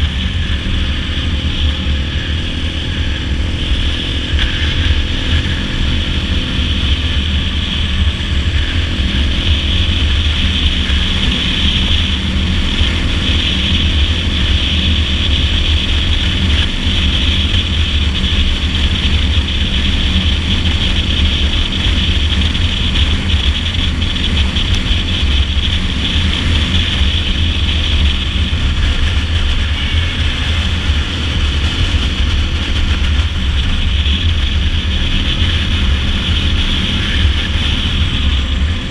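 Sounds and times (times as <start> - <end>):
dirt bike engine cruising: 0.0 - 38.9
wind rushing over microphone: 0.0 - 38.9.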